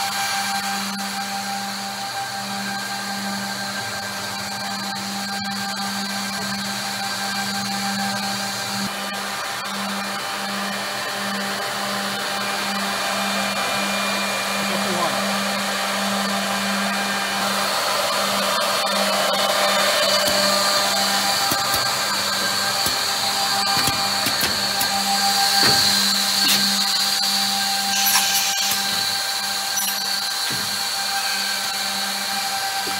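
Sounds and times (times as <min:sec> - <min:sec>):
machine motor hum and whine: 0:00.0 - 0:32.9.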